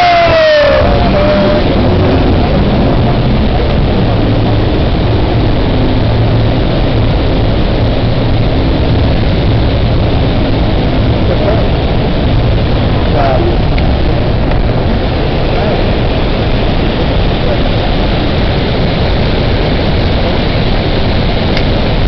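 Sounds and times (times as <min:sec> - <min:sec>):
speedboat engine droning: 0:00.0 - 0:22.0
water rushing hiss: 0:00.0 - 0:22.0.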